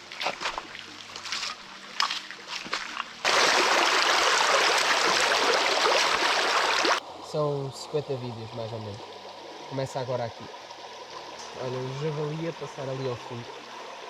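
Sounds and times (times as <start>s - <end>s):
rushing stream water: 0.0s - 14.0s.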